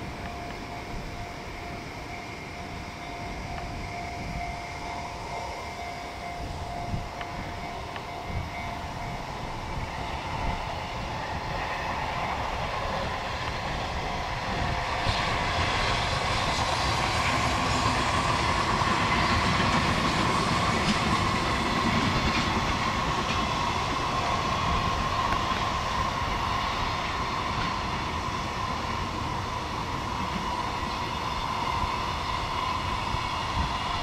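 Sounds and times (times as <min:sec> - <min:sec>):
freight train passing on rails: 0:00.0 - 0:34.0
wind buffeting microphone: 0:00.0 - 0:34.0.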